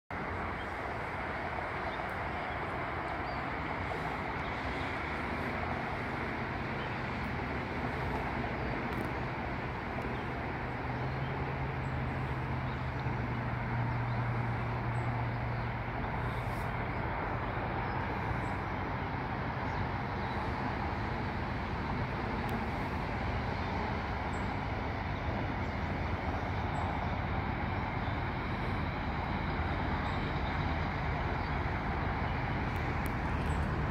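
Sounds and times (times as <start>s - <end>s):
distant road traffic: 0.1s - 33.9s.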